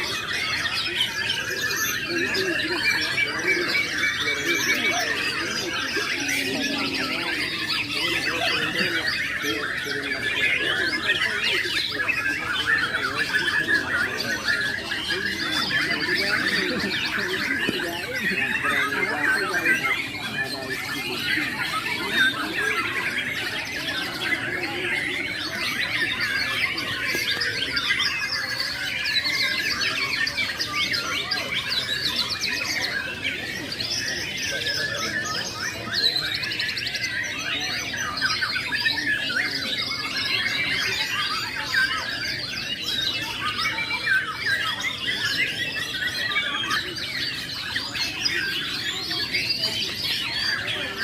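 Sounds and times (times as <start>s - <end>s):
chorus of caged songbirds: 0.0s - 51.0s.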